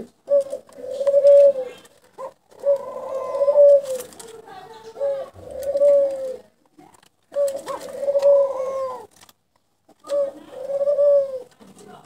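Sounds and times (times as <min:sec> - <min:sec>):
dove cooing: 0:00.0 - 0:06.6, 0:07.3 - 0:09.3, 0:10.0 - 0:12.0.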